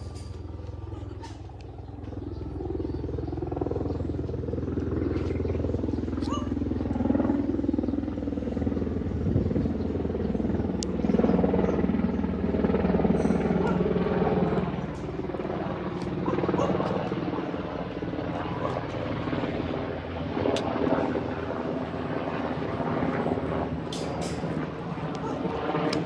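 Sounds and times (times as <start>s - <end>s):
helicopter engines running: 0.0s - 26.0s
helicopter rotor beating: 0.0s - 26.0s.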